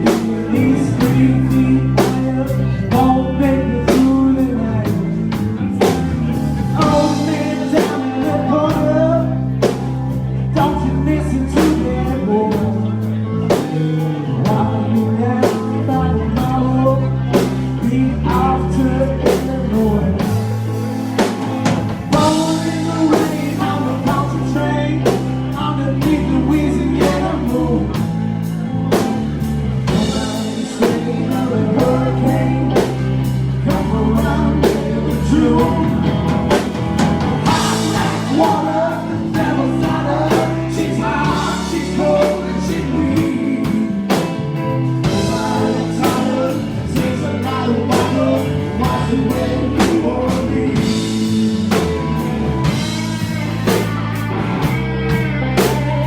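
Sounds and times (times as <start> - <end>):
drum kit beat: 0.0 - 11.0, 19.2 - 56.0
live rock band: 0.0 - 56.0.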